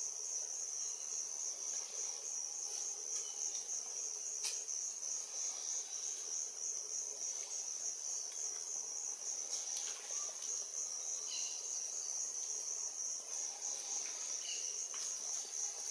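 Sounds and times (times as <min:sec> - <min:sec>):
high-pitched insect chorus trilling: 0:00.0 - 0:15.9.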